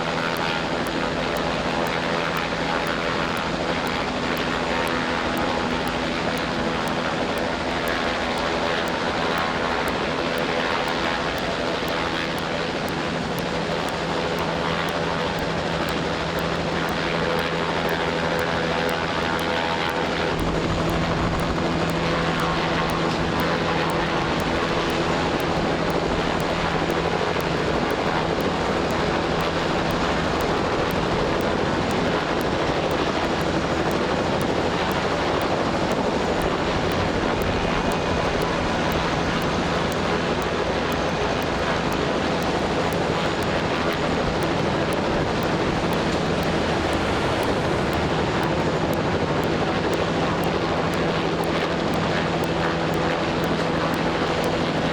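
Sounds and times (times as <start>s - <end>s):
engine drone: 0.0s - 54.9s.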